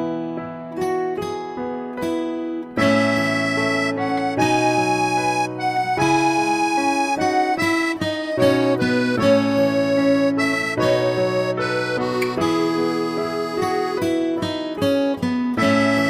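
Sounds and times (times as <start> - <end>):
reed instrument melody: 2.8 - 16.0.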